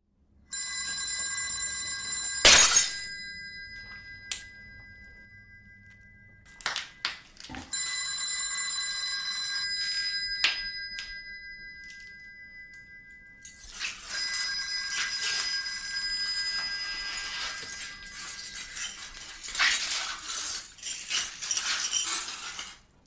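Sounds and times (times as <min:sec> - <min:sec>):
high ringing tones: 0:00.4 - 0:22.1.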